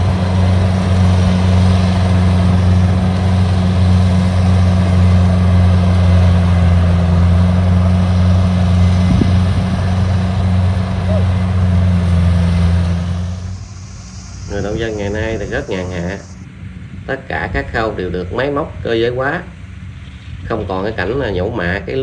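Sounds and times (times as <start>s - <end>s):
harvester engine droning: 0.0s - 22.0s.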